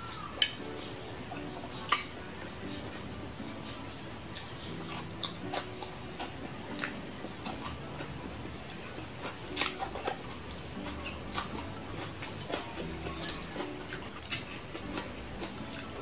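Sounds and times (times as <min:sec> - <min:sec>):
crunchy salad chewing: 0:00.0 - 0:16.0.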